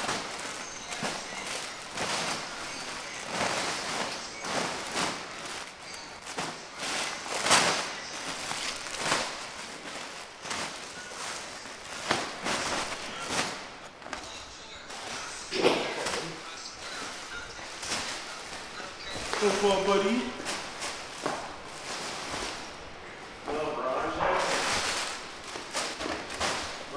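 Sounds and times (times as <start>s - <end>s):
plastic bags rustling: 0.0s - 26.9s.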